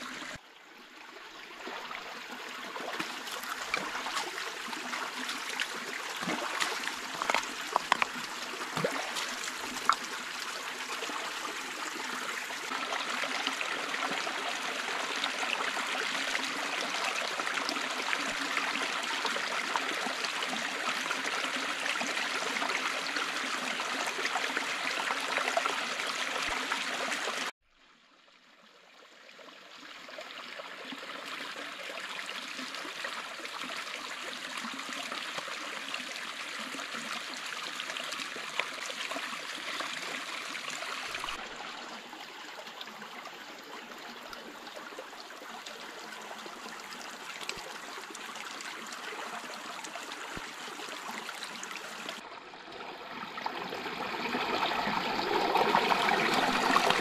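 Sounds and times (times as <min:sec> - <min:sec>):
stream running over rocks: 0:00.0 - 0:27.5, 0:28.9 - 0:57.0.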